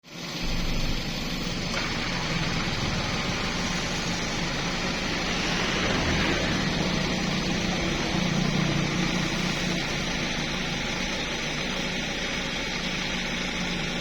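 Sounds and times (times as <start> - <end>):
motor running steadily: 0.0 - 14.0
constant hiss: 0.1 - 14.0.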